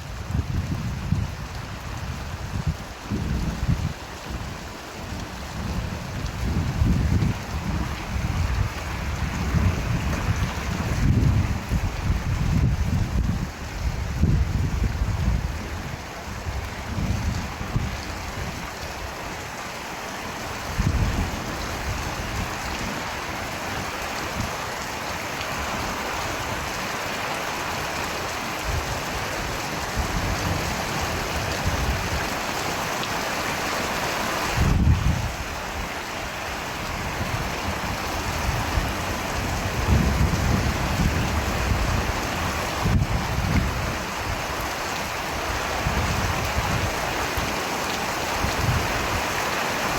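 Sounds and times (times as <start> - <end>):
rain hissing: 0.0 - 49.9.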